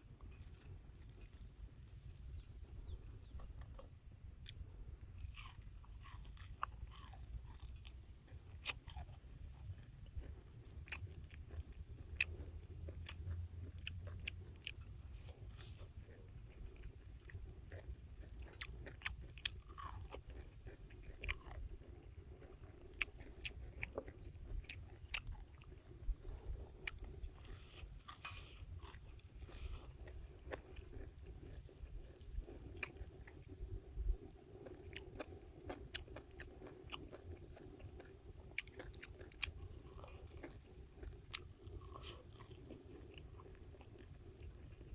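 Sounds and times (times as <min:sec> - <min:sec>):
person chewing crispy food: 0:00.2 - 0:44.9.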